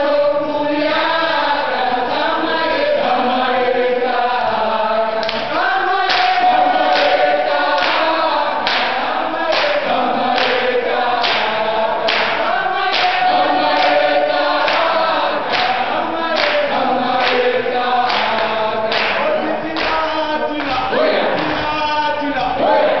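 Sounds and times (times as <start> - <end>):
group singing in chorus: 0.0 - 23.0.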